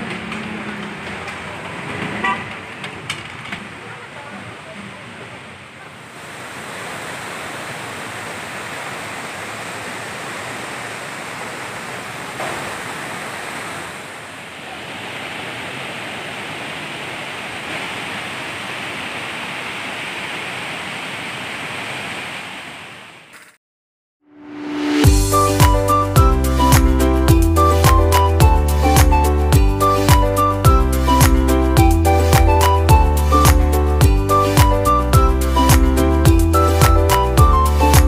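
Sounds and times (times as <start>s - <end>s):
waterfall and stream rushing: 3.6s - 23.3s, 24.4s - 38.0s.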